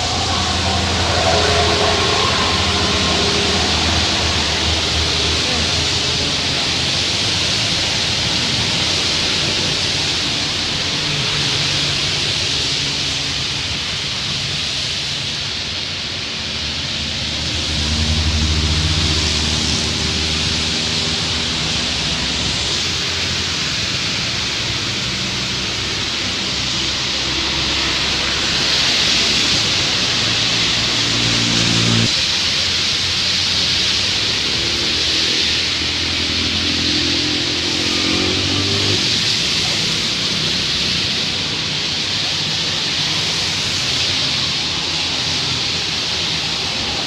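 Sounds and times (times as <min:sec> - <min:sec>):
heavy rain: 0:00.0 - 0:47.0
trucks and traffic passing: 0:00.0 - 0:47.0
tyres hissing through water: 0:00.0 - 0:47.0.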